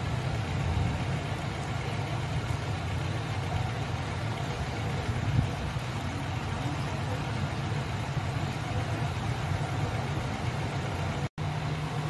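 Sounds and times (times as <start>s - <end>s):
steady low engine rumble: 0.0s - 12.0s.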